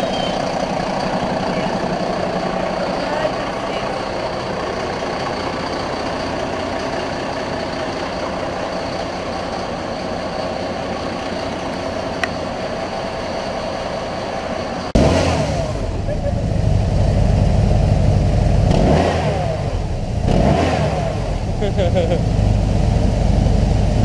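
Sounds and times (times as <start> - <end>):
diesel engine idling: 0.0 - 24.0
louder lower engine sound: 0.0 - 24.0.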